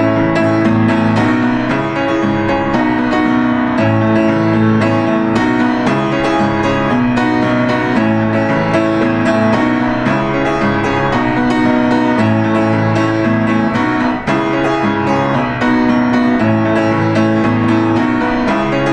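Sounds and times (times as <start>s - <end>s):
gentle piano music: 0.0s - 18.9s.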